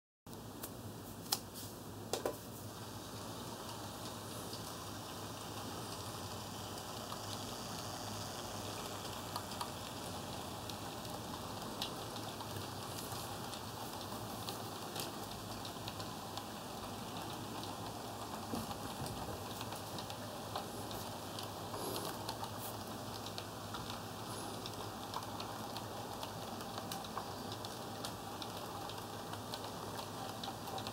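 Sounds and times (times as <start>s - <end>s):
model train running: 2.7s - 30.9s.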